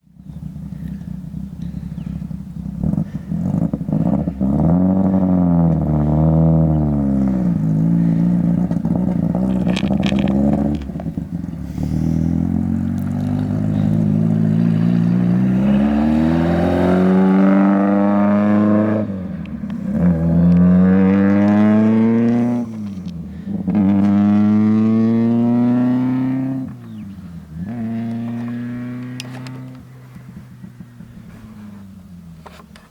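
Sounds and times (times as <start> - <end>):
racing car engine accelerating: 2.8 - 32.1.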